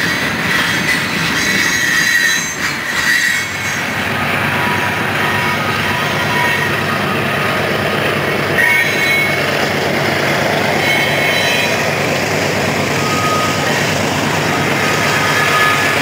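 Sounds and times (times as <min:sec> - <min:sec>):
high-pitched wheel squeals: 0:00.0 - 0:16.0
train wheels rumbling on rails: 0:00.0 - 0:16.0.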